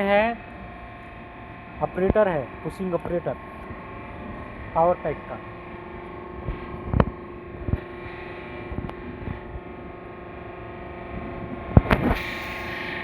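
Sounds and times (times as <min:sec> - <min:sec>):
hydraulic power pack droning: 0:00.0 - 0:13.0.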